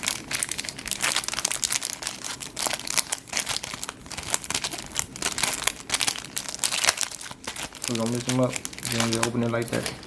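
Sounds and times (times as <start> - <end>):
foil wrappers crinkling: 0.0 - 10.0.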